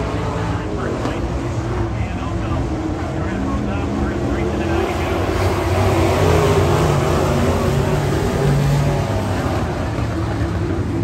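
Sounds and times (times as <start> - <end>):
race truck engines passing: 0.0 - 11.0.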